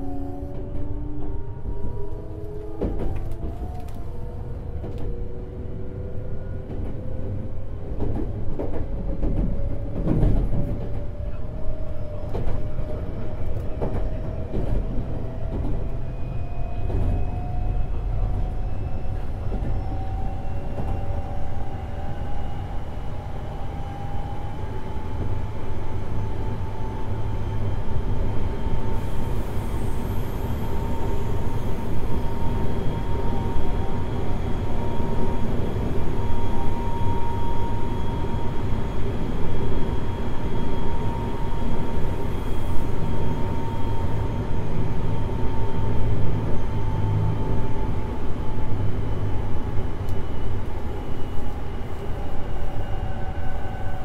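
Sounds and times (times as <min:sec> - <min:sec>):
wheels rumbling on rails: 0:00.0 - 0:54.0.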